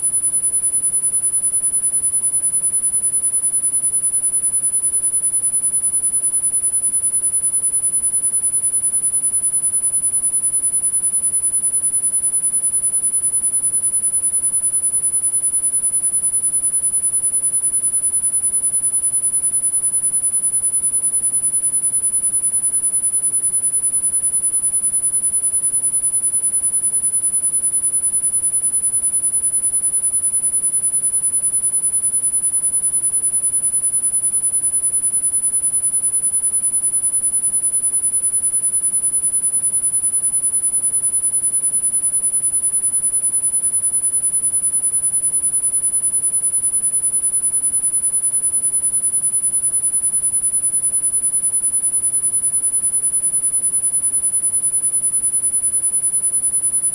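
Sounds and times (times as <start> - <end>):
high-pitched sine tone: 0.0 - 56.9.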